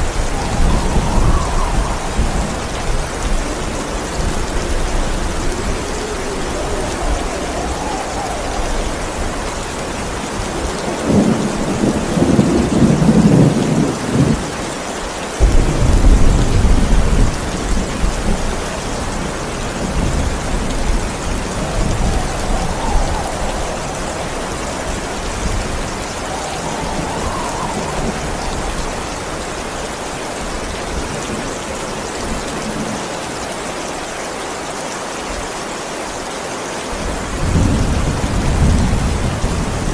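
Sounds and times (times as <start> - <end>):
thunder rumbling: 0.0 - 14.6, 15.4 - 31.5, 37.0 - 39.9
heavy rain: 0.0 - 39.9.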